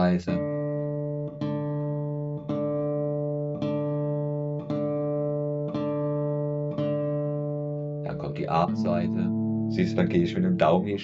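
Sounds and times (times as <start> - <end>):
classical guitar string plucked: 0.0 - 11.0.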